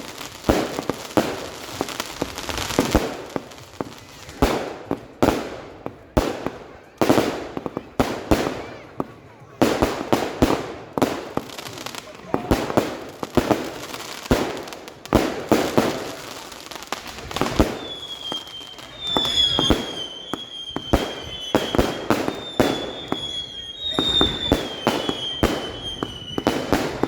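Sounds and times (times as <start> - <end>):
fireworks bangs and pops: 0.0 - 27.0
whistling firework: 0.0 - 27.0.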